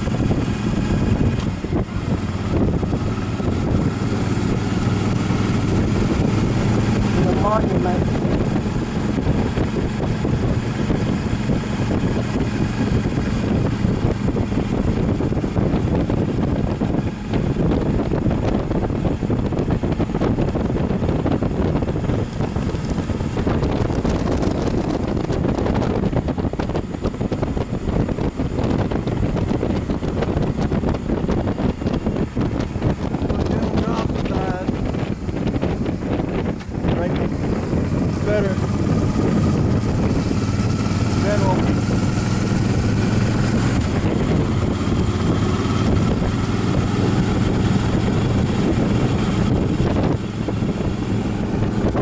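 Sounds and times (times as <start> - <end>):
motorcycle engine running: 0.0 - 52.0
wind noise on microphone: 0.0 - 52.0.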